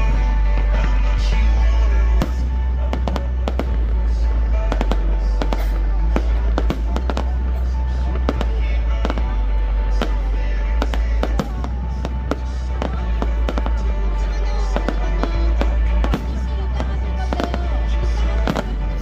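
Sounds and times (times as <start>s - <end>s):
loud music playing: 0.0s - 19.0s
fireworks bangs and pops: 2.2s - 19.0s.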